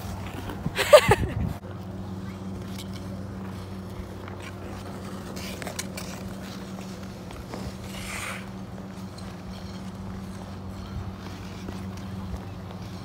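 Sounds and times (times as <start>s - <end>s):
ice skates scraping on ice: 0.0s - 1.6s, 2.2s - 13.0s
steady low hum: 0.0s - 13.0s.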